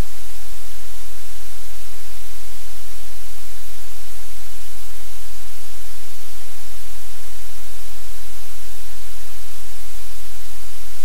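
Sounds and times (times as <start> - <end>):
loud static hiss: 0.0 - 11.0
low electrical hum: 0.0 - 11.0.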